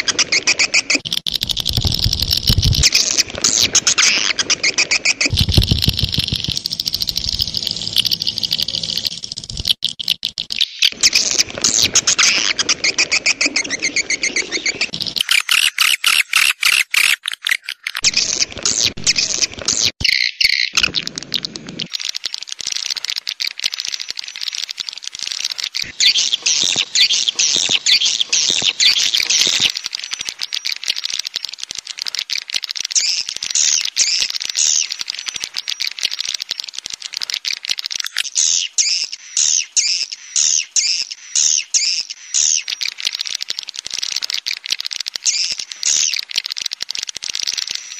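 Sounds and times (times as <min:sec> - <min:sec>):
swiftlets chirping and twittering: 0:00.0 - 0:47.9.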